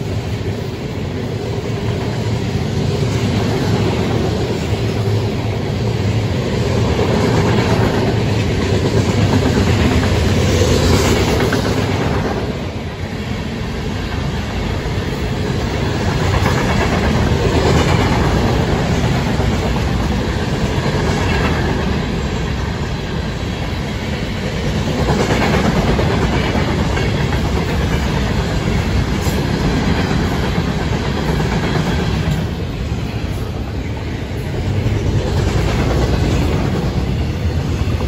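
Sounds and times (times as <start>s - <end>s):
clickety-clack over rail joints: 0.0s - 38.0s
rumble of train wheels on rails: 0.0s - 38.0s.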